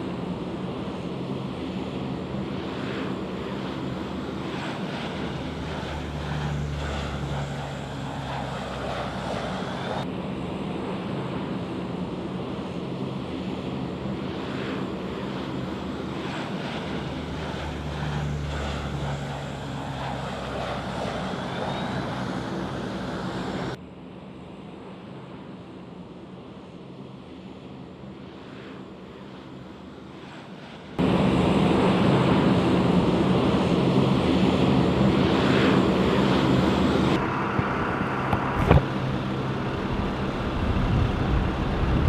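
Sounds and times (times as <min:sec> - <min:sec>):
aircraft engines droning: 0:00.0 - 0:42.0.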